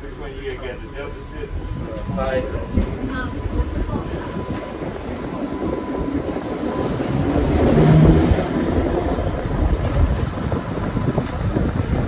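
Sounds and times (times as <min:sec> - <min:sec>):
short low hum: 0:00.0 - 0:10.2
streetcar wheels rumbling on rail: 0:00.0 - 0:12.0.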